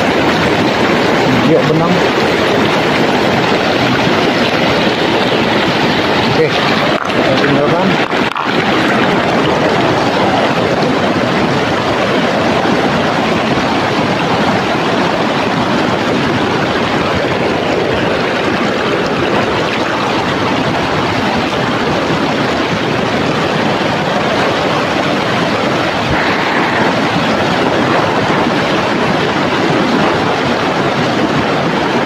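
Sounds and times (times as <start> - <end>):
river water rushing over stones: 0.0 - 32.0.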